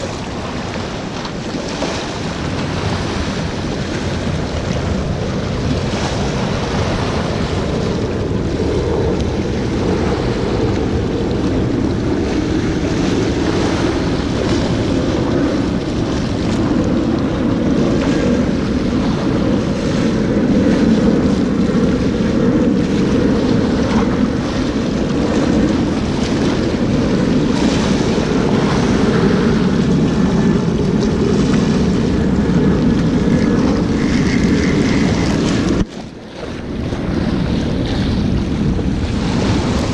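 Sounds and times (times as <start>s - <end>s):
surf washing against rocks: 0.0s - 39.9s
wind buffeting microphone: 0.0s - 39.9s.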